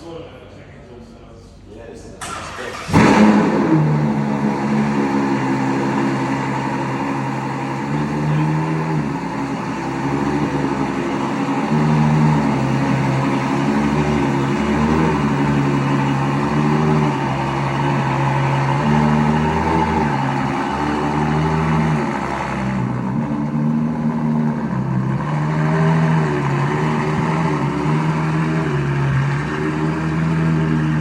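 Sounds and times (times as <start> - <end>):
car engine starting and idling: 0.0 - 31.0.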